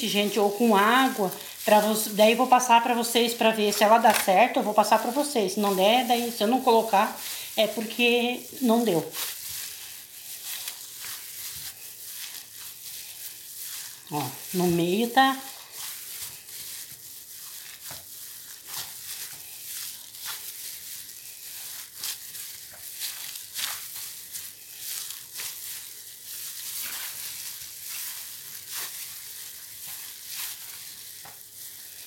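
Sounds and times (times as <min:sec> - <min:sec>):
gloved hands crunching dry dough: 0:00.0 - 0:32.0.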